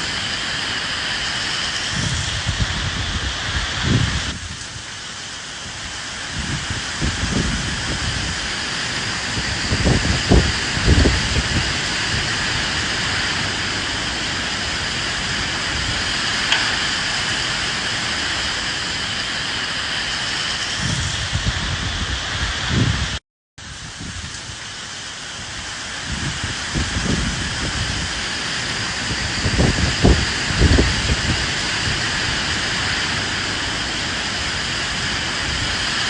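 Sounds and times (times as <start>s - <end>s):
heavy rain hissing: 0.0s - 36.0s
wind gusts rumbling: 0.0s - 36.0s.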